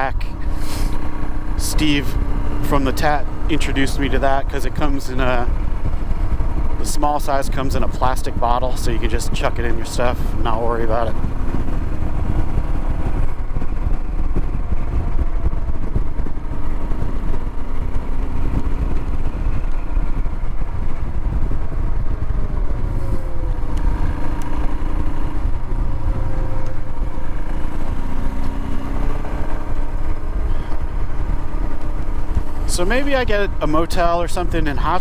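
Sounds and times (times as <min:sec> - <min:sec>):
low wind rumble on microphone: 0:00.0 - 0:35.0
motorcycle engine running: 0:00.0 - 0:35.0.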